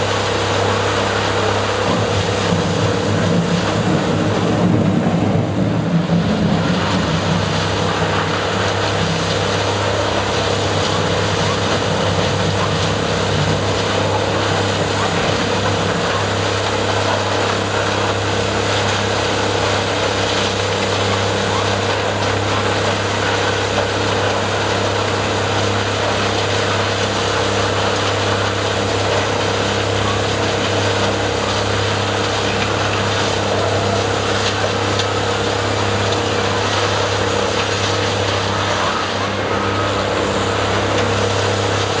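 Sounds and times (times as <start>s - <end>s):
tub grinder engine humming: 0.0s - 42.0s
wheel loader moving: 0.0s - 42.0s.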